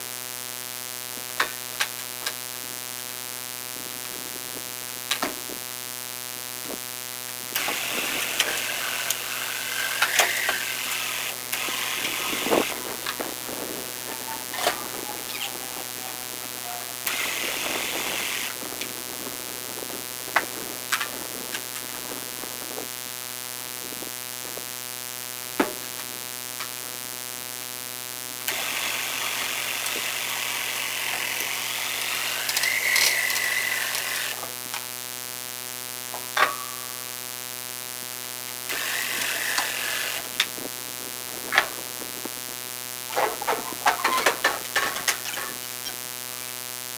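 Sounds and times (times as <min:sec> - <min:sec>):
mechanical hum: 0:00.0 - 0:46.9.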